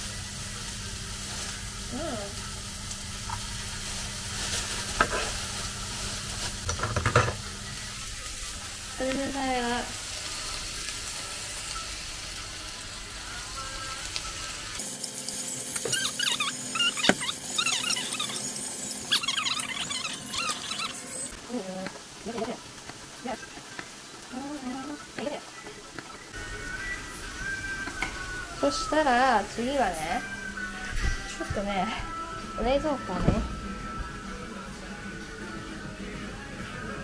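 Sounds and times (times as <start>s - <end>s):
chicken sizzling in frying pan: 0.0s - 30.0s.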